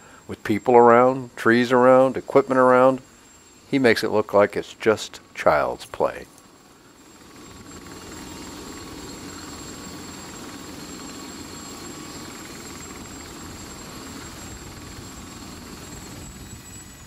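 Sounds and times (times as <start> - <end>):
helicopter rotor running: 0.0 - 17.0
thin high whine: 0.0 - 17.0.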